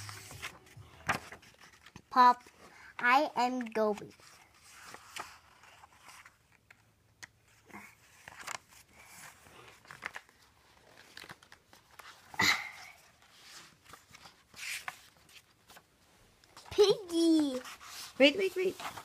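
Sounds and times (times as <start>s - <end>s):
book pages turning: 0.0s - 19.0s.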